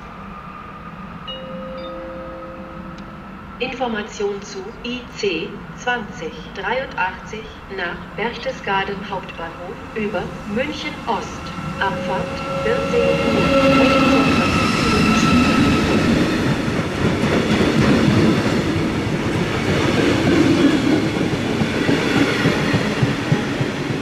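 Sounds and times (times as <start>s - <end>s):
train passing on rails: 0.0s - 24.0s.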